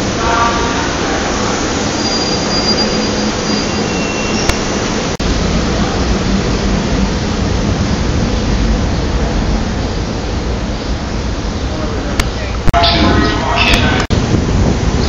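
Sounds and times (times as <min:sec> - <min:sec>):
electric train rushing: 0:00.0 - 0:15.0.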